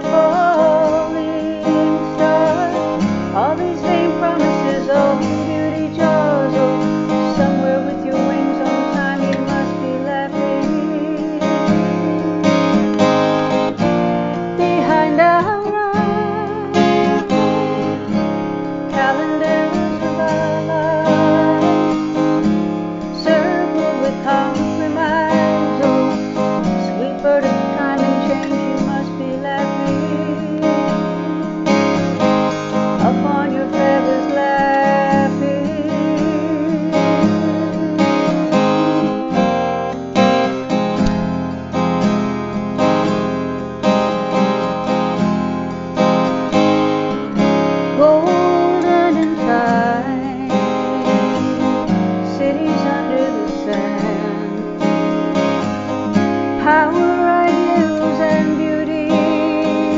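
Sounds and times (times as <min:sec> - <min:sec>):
woman singing with vibrato: 0:00.0 - 0:14.0, 0:14.6 - 0:22.5, 0:23.1 - 0:40.3, 0:47.9 - 0:55.2, 0:56.6 - 0:59.9
acoustic guitar: 0:00.0 - 0:59.9.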